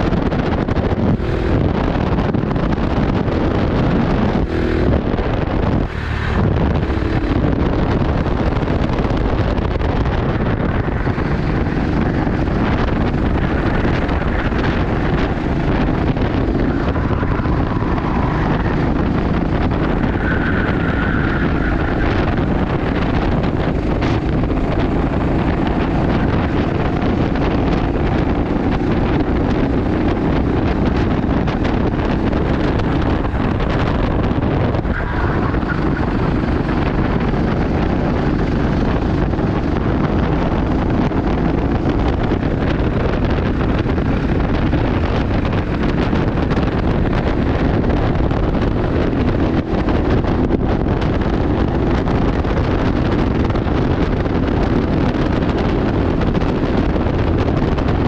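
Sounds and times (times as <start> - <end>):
kart engine running: 0.0 - 58.0
wind buffeting microphone: 0.0 - 58.0.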